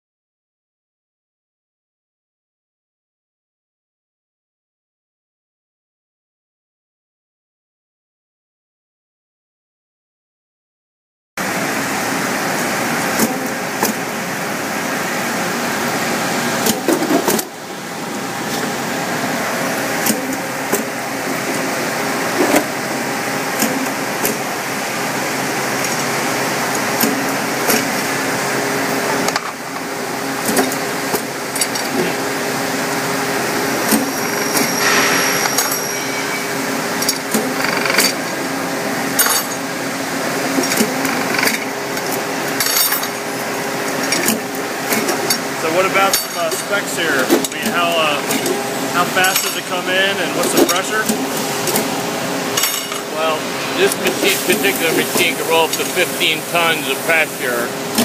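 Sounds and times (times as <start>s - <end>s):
thread rolling machine humming: 11.4s - 58.0s.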